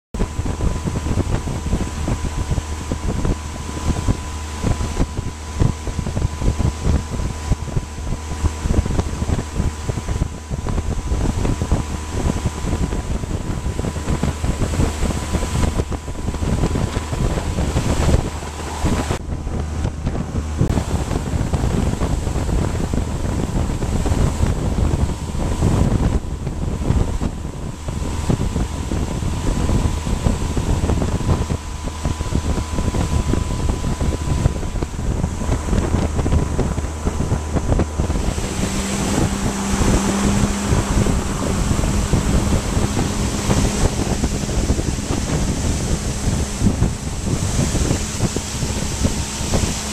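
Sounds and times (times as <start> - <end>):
motorboat engine running: 0.0 - 49.9
wind buffeting microphone: 0.1 - 49.9
water rushing past hull: 0.2 - 49.9.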